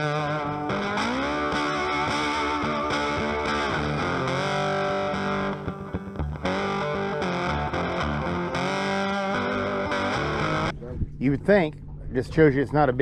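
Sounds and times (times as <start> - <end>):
distorted electric guitar music: 0.0 - 10.8.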